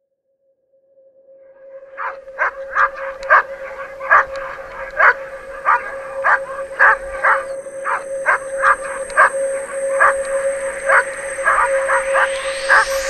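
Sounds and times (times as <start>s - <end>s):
steady high tone: 1.8s - 13.0s
huskies barking: 2.0s - 13.0s.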